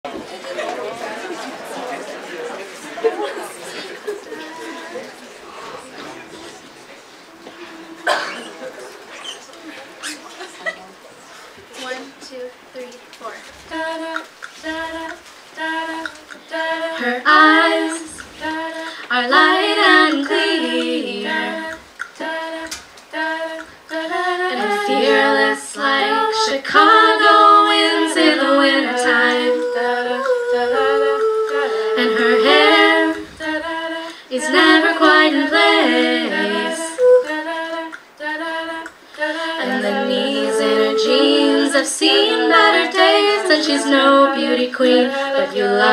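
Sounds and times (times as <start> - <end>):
women singing a cappella: 3.7 - 6.6, 7.3 - 8.6, 12.7 - 45.9.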